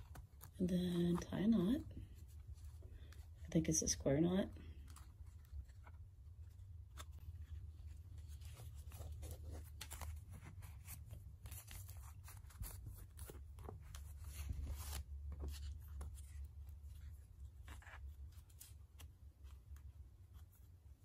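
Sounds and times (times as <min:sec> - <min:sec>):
paper rustling and rubbing: 0:00.0 - 0:03.6, 0:04.6 - 0:21.0.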